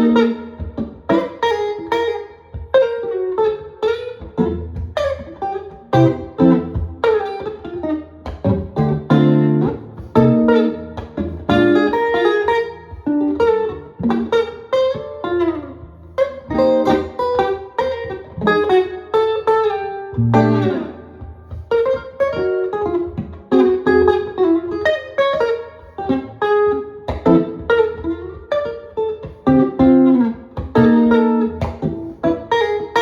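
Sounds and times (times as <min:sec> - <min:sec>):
solo jazz guitar: 0:00.0 - 0:33.0.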